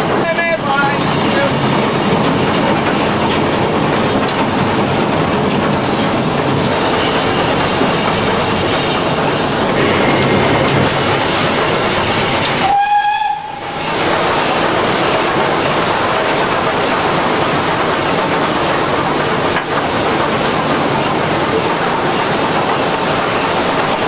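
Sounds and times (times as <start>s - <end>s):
steam locomotive running at speed: 0.0s - 24.0s.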